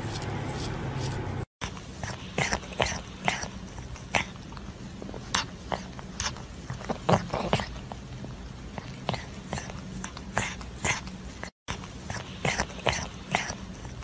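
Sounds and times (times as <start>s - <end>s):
cat licking and smacking: 1.6s - 14.0s.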